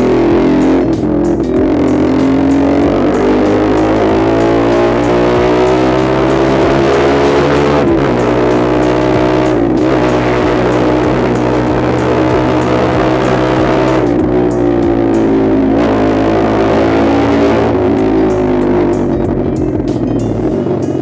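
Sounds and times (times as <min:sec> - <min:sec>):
guitar background music: 0:00.0 - 0:21.0
motorcycle engine revving: 0:00.0 - 0:21.0.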